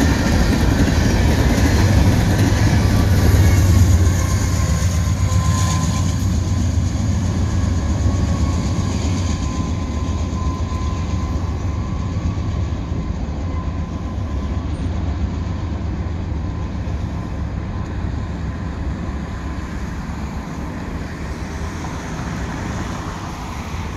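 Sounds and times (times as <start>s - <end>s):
freight train rumbling: 0.0s - 23.9s.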